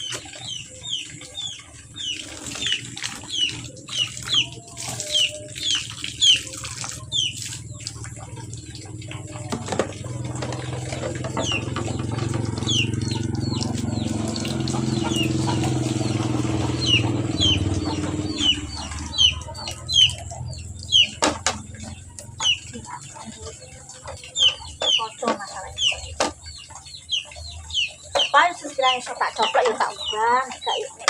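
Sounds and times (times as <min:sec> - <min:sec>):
chickens peeping: 0:00.0 - 0:31.0
water running from a tap: 0:00.0 - 0:31.0.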